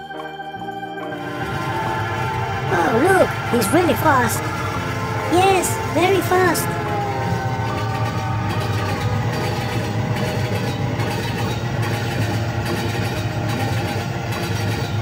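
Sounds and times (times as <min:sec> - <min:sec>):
train running along track: 0:01.0 - 0:15.0.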